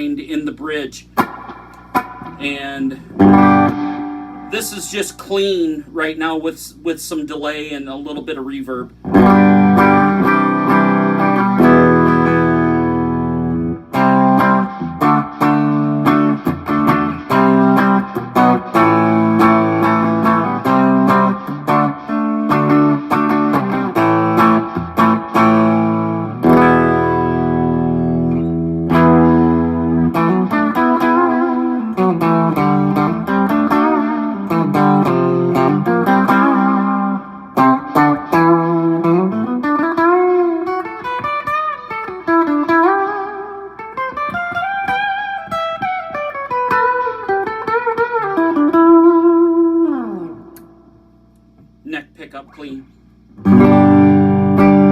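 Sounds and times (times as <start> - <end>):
clean electric guitar with delay: 1.2 - 5.5, 9.0 - 50.9, 53.4 - 54.9.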